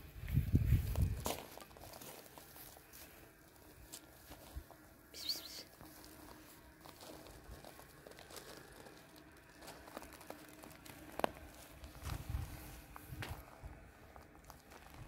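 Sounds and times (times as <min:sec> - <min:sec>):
footsteps crunching on gravel: 0:00.1 - 0:15.0.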